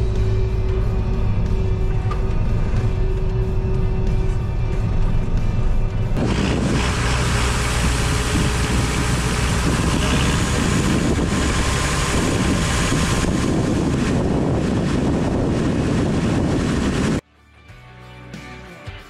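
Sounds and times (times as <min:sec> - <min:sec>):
combine harvester engine drone: 0:00.0 - 0:17.2.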